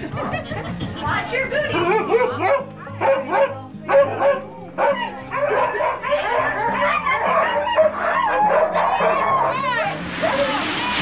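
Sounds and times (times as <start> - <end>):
sled dogs barking and whining: 1.5 - 11.0.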